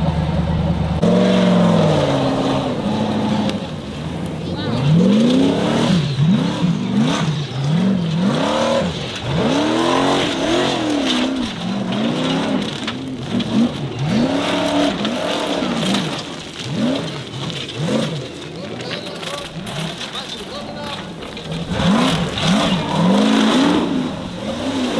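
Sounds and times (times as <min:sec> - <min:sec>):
buggy engine revving hard: 0:00.0 - 0:24.9
wheels spinning in loose ground: 0:00.0 - 0:24.9.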